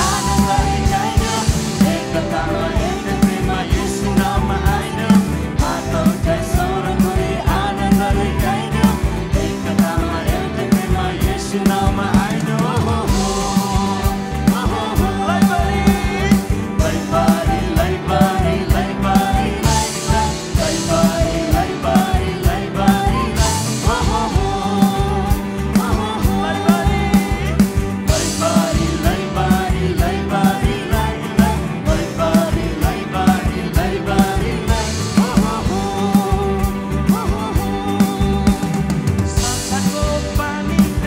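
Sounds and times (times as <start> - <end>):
band playing: 0.0 - 41.0
people singing worship song: 0.0 - 41.0
steady drum beat: 0.0 - 41.0.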